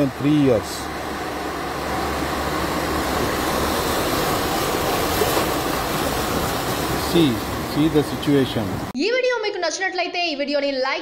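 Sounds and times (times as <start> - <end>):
car driving through floodwater: 0.0 - 9.0.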